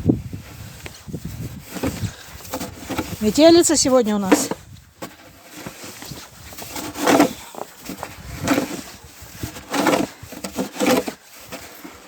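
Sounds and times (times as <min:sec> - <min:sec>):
snow shovel scraping snow: 0:00.3 - 0:12.0.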